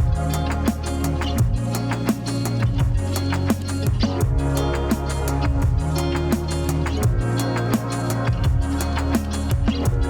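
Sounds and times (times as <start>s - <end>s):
steady drum beat: 0.0s - 10.0s
sustained low bass notes: 0.0s - 10.0s.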